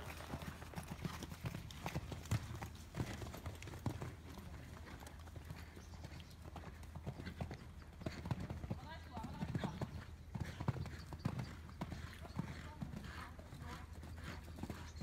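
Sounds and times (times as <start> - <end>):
horse hoofbeats on sand: 0.0 - 15.0.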